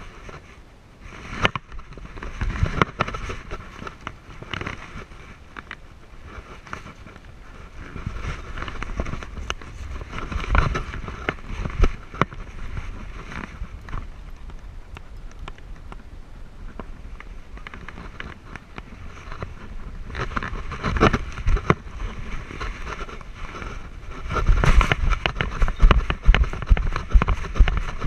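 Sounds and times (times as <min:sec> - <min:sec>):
paws on gravel: 0:00.0 - 0:28.0.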